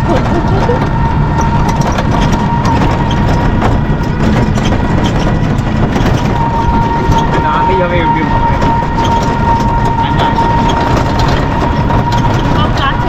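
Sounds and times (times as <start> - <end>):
electric rickshaw rumble: 0.0 - 13.0
rattles and knocks: 0.0 - 13.0
thin steady whine: 0.0 - 13.0.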